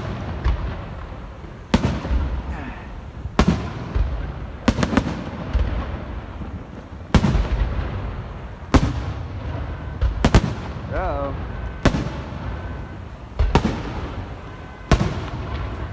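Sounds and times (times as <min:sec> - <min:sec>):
fireworks bangs: 0:00.0 - 0:15.9.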